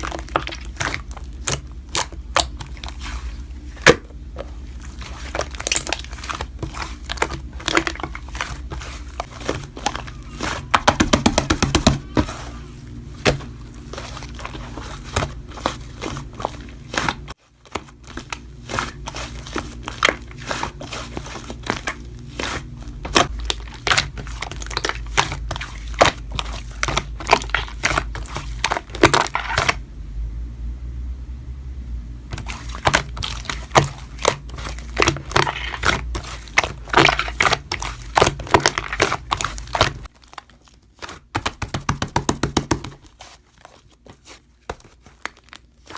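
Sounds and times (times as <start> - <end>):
slime squished by hand: 0.0 - 29.8, 32.3 - 45.9.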